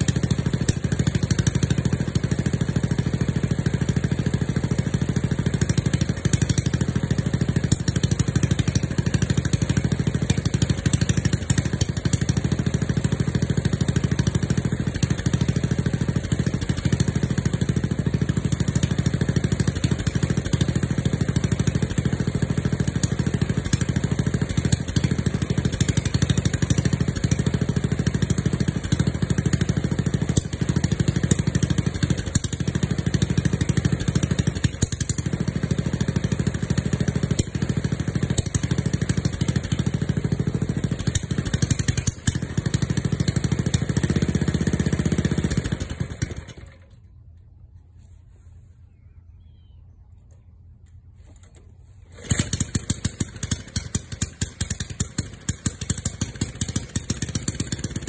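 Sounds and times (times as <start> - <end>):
small gasoline engine idling: 0.0 - 47.3, 51.3 - 58.0.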